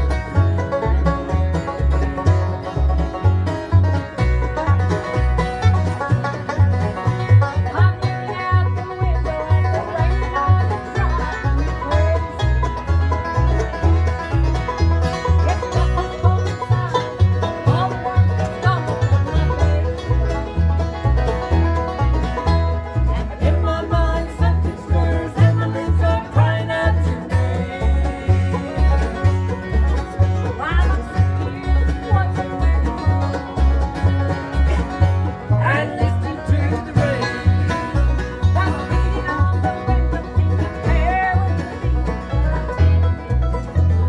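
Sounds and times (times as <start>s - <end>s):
bluegrass band playing: 0.0s - 44.0s.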